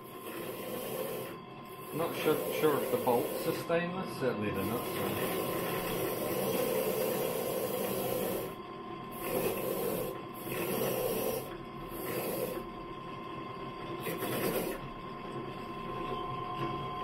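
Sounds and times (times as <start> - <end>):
drill press humming: 0.0 - 13.2, 13.8 - 17.0.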